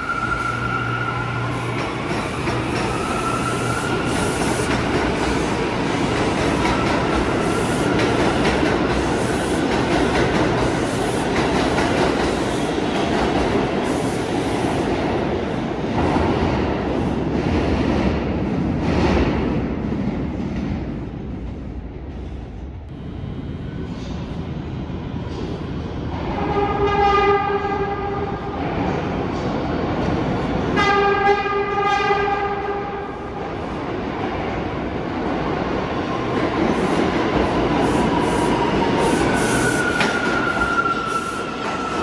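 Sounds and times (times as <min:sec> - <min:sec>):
train wheel and rail rumble: 0:00.0 - 0:42.0.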